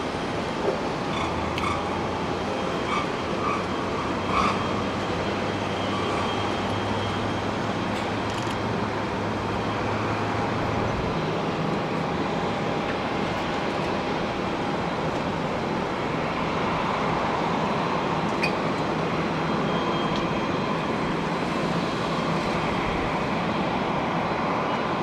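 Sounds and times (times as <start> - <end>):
jet engine rumble and whine: 0.0 - 25.0.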